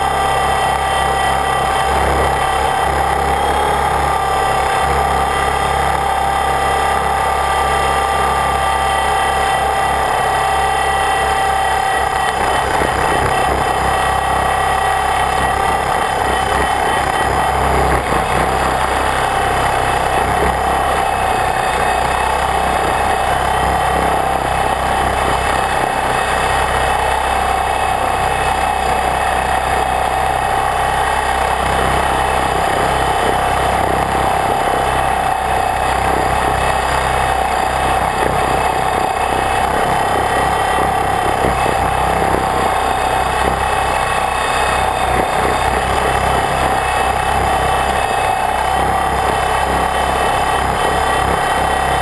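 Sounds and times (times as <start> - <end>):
model helicopter rotor whine: 0.0 - 52.0.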